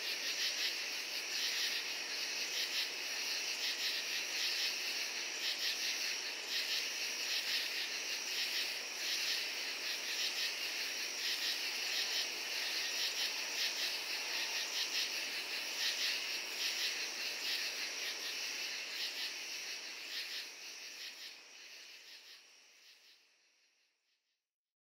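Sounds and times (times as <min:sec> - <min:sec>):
crickets and katydids trilling: 0:00.0 - 0:23.2.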